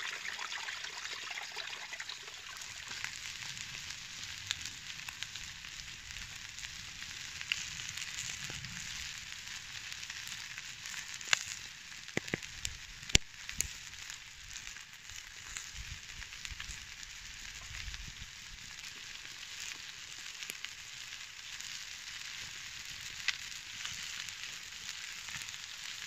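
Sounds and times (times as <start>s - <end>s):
food sizzling in a pan: 0.0s - 26.0s
sharp pops and crackles: 0.0s - 26.0s.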